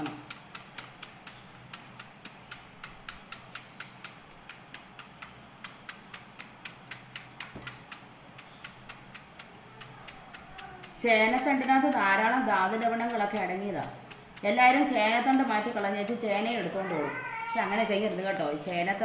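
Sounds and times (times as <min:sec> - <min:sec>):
knife chopping vegetable stem: 0:00.0 - 0:19.0.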